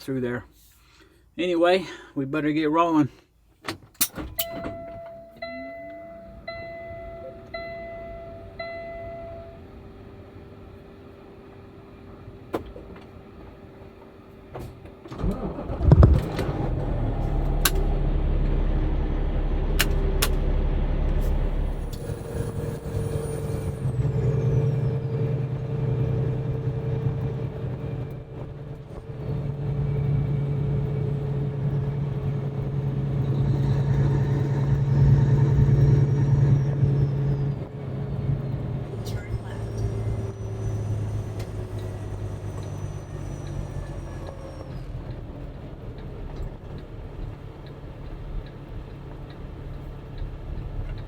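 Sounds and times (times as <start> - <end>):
diesel truck engine running: 4.1 - 51.0.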